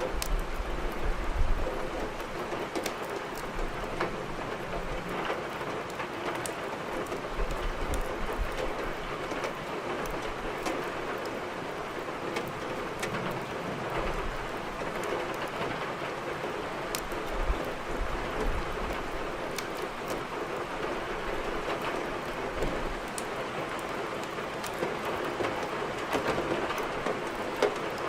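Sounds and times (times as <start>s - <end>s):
burning firewood crackling: 0.0s - 28.0s
steady rain: 0.0s - 28.0s.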